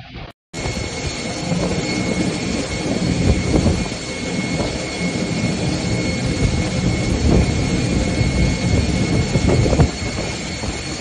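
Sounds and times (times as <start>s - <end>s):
jet engines rushing and whining: 0.0s - 11.0s.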